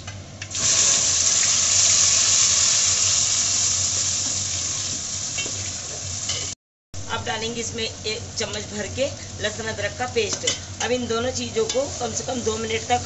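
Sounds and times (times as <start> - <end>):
onion paste sizzling in oil: 0.5 - 6.6, 8.4 - 13.0.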